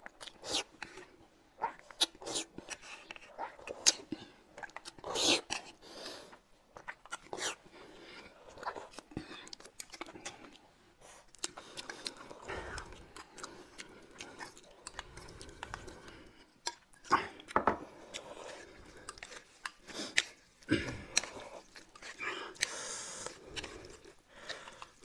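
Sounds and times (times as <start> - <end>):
chewing and slurping noodles: 0.0 - 25.0.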